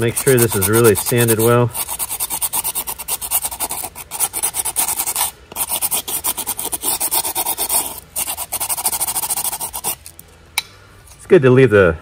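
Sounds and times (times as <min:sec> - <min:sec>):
sandpaper rubbing: 0:00.0 - 0:10.0.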